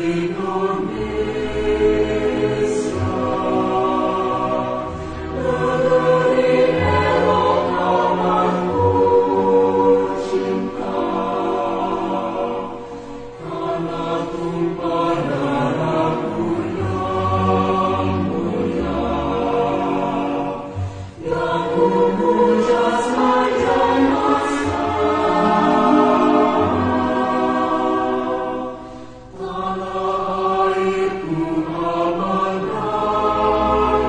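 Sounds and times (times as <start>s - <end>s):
accompanying music: 0.0s - 34.0s
children singing together: 0.0s - 34.0s.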